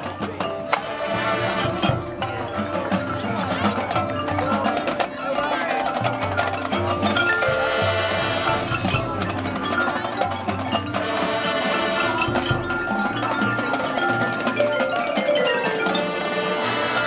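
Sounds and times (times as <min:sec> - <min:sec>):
mallet percussion ringing: 0:00.0 - 0:17.0
marching band playing: 0:00.0 - 0:17.0.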